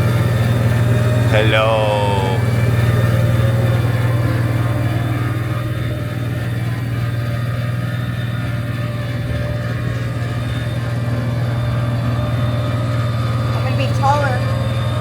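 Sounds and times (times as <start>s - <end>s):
generator humming: 0.0s - 15.0s.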